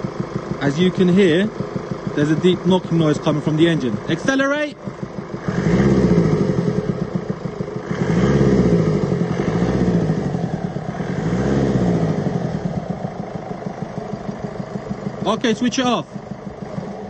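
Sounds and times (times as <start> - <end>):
deep engine knocking: 0.0 - 17.0
diesel engine revving: 0.0 - 17.0.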